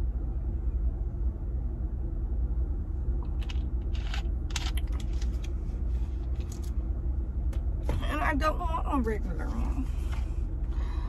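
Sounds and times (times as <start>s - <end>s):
idling engine rumble: 0.0s - 11.0s.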